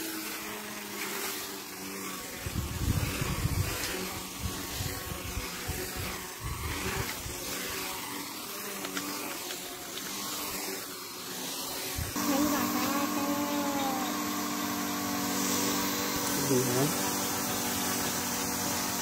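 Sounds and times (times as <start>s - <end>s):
small electric motor whirring: 0.0s - 19.0s.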